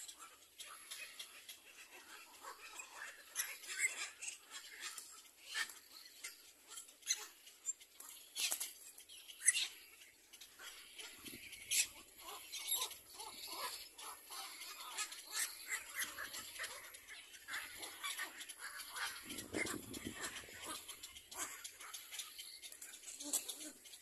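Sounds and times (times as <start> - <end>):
chicks squeaky begging calls: 0.0 - 24.0.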